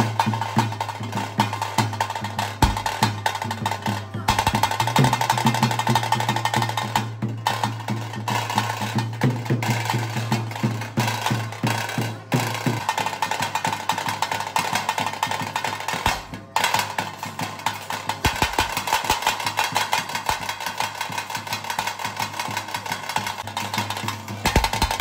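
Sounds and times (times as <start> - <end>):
fast percussion drumming: 0.0 - 25.0.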